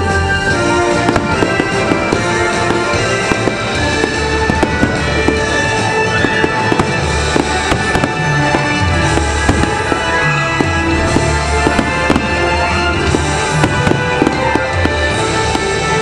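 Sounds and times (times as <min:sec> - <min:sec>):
fireworks bangs and crackles: 0:00.0 - 0:16.0
loud music: 0:00.0 - 0:16.0.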